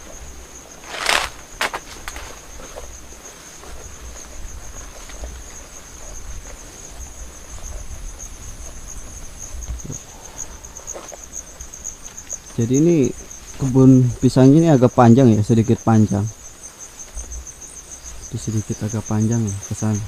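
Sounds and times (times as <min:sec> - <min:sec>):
fainter insect trill: 0:00.0 - 0:20.0
insects trilling: 0:00.0 - 0:20.0.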